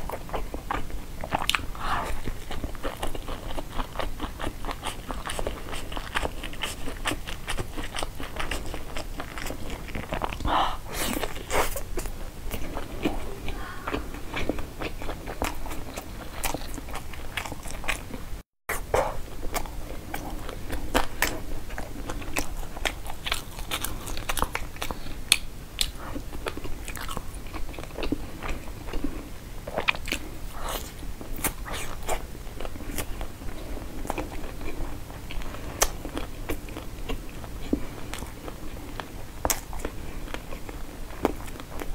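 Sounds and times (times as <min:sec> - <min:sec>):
chewing sushi: 0:00.0 - 0:18.3, 0:18.9 - 0:41.9.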